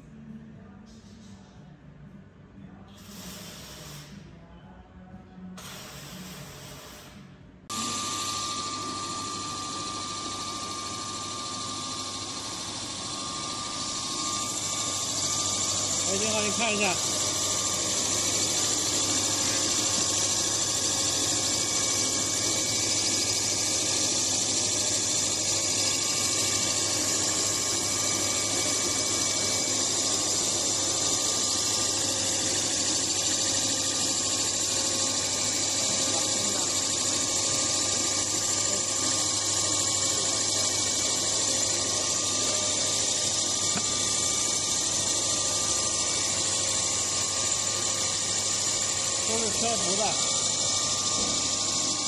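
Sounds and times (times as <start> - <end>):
machine hum: 7.7 - 52.0.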